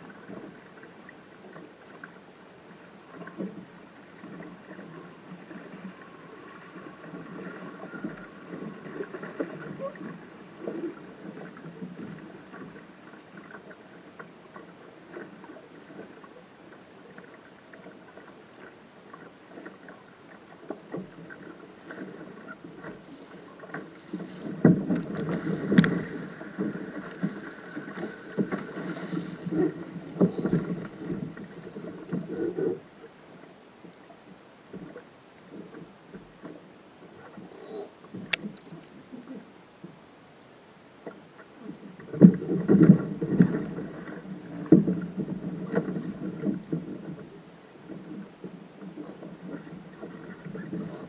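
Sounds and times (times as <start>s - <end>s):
water splashing against hull: 0.0s - 51.0s.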